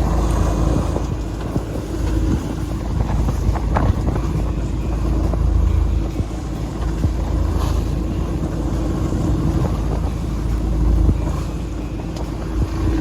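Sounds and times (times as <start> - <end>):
boat engine rumble: 0.0 - 13.0
wind buffeting microphone: 0.0 - 13.0.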